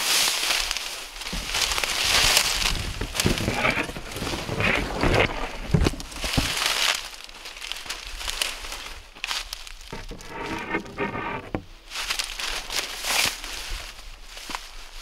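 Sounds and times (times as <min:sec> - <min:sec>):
dry grass rustling and crackling: 0:00.0 - 0:15.0.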